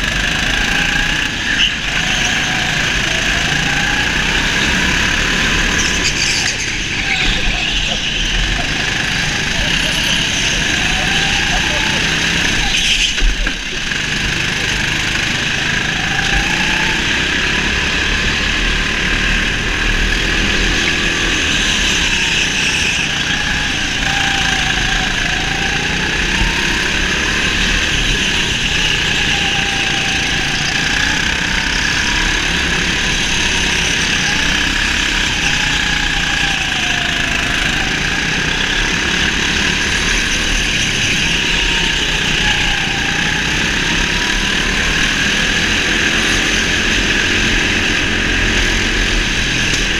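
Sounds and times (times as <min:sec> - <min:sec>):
go-kart motor revving: 0:00.0 - 0:49.9.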